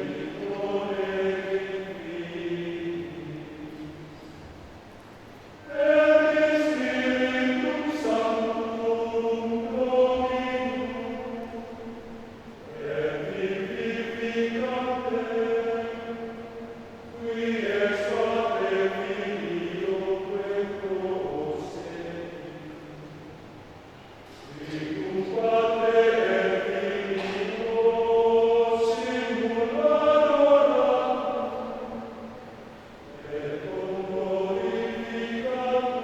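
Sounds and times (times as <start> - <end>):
men's choir singing: 0.0 - 4.5, 5.5 - 23.5, 24.3 - 36.0.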